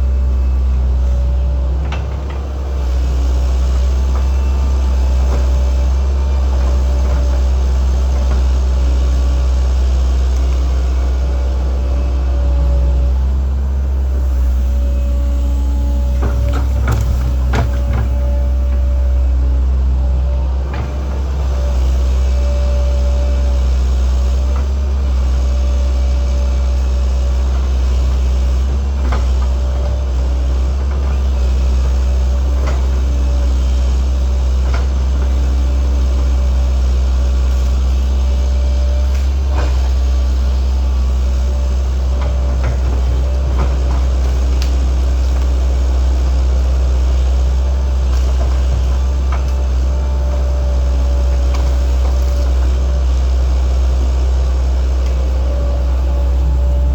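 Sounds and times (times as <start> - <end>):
excavator engine drone: 0.0 - 56.9.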